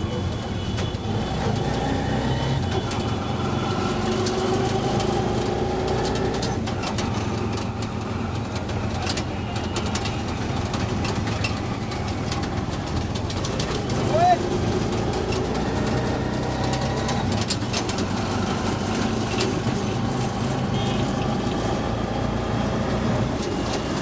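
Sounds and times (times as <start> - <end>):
street traffic: 0.0 - 24.0
sharp clicks and rattles: 3.8 - 24.0.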